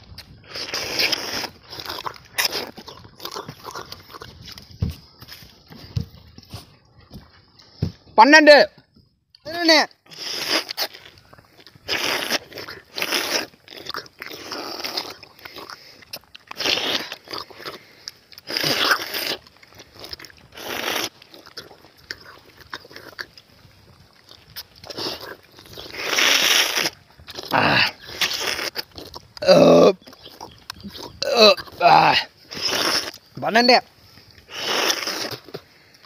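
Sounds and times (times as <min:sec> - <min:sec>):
sucking and biting soft fruit: 0:00.0 - 0:08.1, 0:09.2 - 0:36.0.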